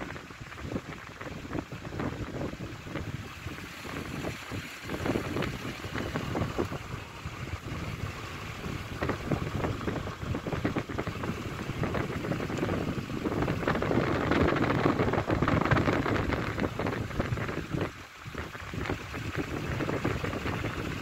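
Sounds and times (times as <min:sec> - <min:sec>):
car driving on road rumble: 0:00.0 - 0:21.0
wind buffeting microphone: 0:00.0 - 0:21.0.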